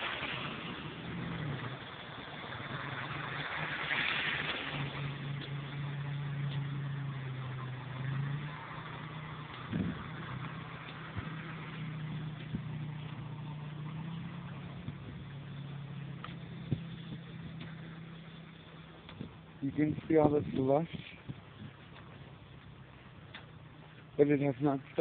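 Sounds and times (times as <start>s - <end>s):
car engine humming: 0.0s - 25.0s
road noise: 0.0s - 25.0s.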